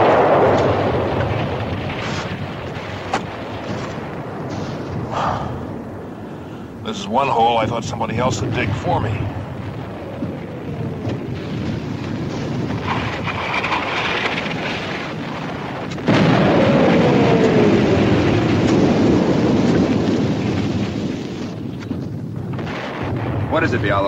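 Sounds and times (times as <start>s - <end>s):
artillery shells bursting: 0.0s - 24.0s
loud explosion: 0.0s - 24.0s.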